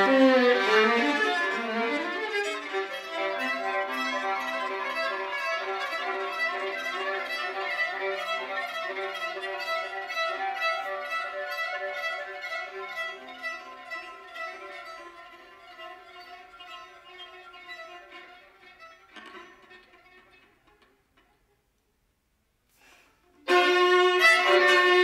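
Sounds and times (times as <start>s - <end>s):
violin and viola playing: 0.0s - 20.4s, 23.4s - 25.0s.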